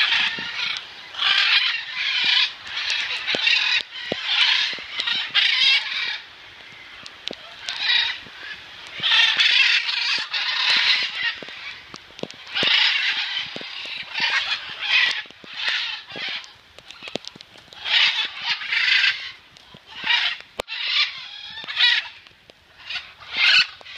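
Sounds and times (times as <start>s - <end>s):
macaws squawking: 0.0s - 23.9s.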